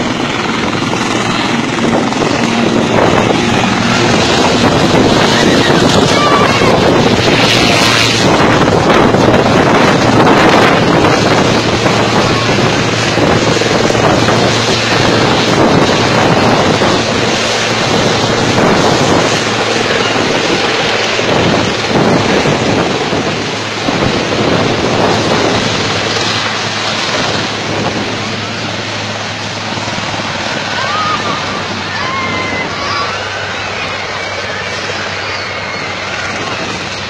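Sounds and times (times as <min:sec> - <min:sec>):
helicopter rotor and turbine: 0:00.0 - 0:37.0
wind buffeting microphone: 0:00.0 - 0:37.0.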